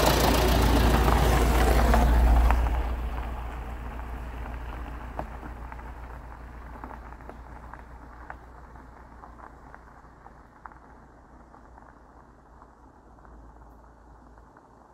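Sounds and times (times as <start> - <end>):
car tyres crunching on gravel: 0.0 - 14.9.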